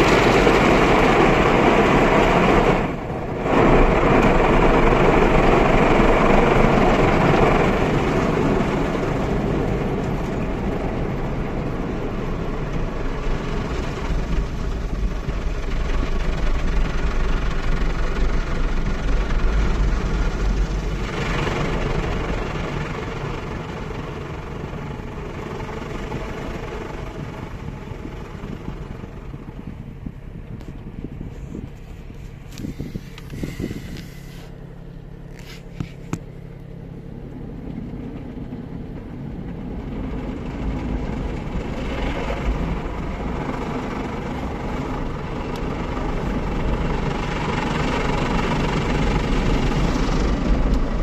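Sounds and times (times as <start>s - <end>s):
car wash machinery rushing: 0.0s - 51.0s.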